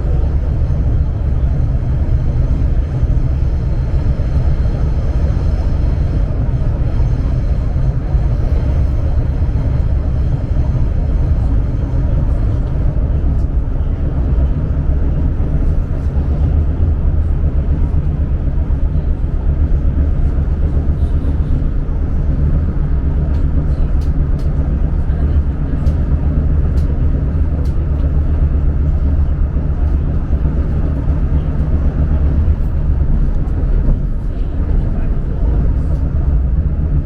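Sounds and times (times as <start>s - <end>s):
high-speed train rumbling: 0.0s - 37.0s.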